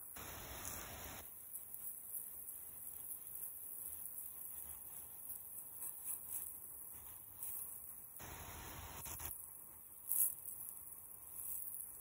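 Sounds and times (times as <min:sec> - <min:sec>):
sprinkler spray hissing: 0:00.0 - 0:12.0.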